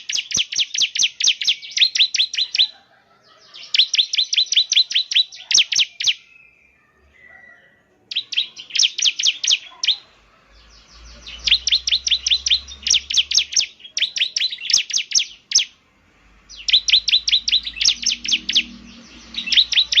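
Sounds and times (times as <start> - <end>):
prinia singing high chirps: 0.0 - 20.0.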